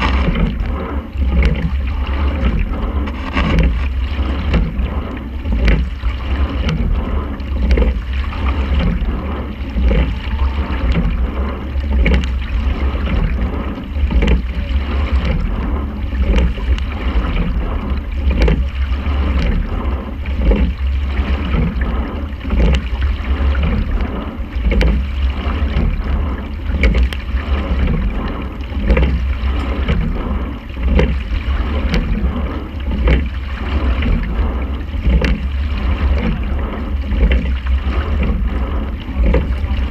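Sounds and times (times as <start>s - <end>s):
low rumble: 0.0s - 39.9s.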